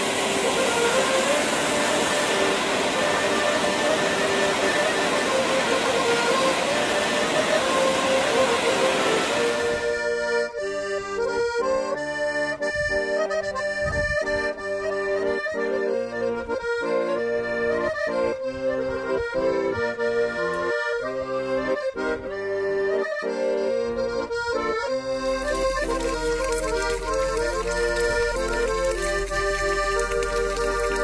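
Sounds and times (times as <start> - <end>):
accordion folk tune: 0.0 - 31.0.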